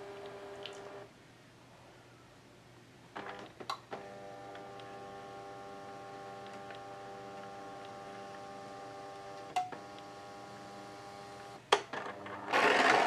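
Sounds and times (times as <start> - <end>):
fax machine feed motor whine: 0.0 - 1.1, 3.2 - 13.0.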